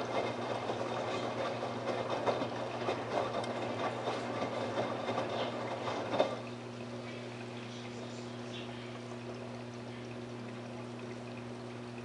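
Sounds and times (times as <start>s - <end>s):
low electrical hum: 0.0s - 12.0s
water running through washing machine: 0.0s - 12.0s.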